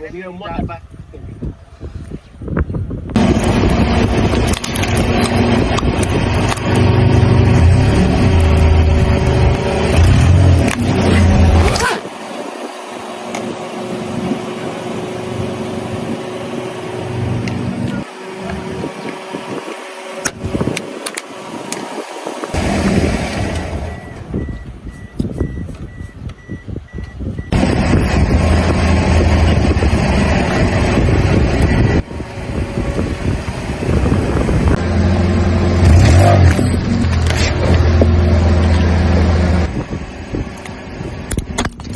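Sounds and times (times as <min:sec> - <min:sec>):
car engine rumbling: 0:00.0 - 0:41.9
road and tyre noise: 0:00.0 - 0:41.9.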